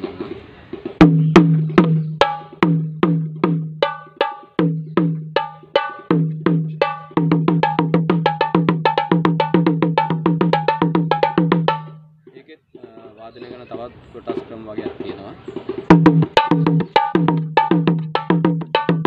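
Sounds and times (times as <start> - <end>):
drum struck with sticks: 0.0 - 13.3, 14.9 - 19.0.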